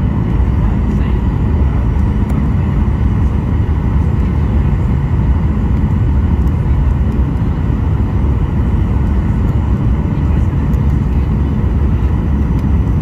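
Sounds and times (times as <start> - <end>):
faint steady whine: 0.0 - 13.0
jet engines rumbling: 0.0 - 13.0.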